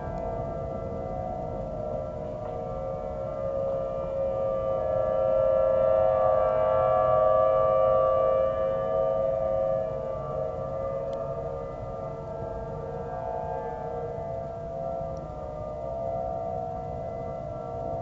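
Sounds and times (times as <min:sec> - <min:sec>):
outdoor warning sirens steady tone: 0:00.0 - 0:18.0.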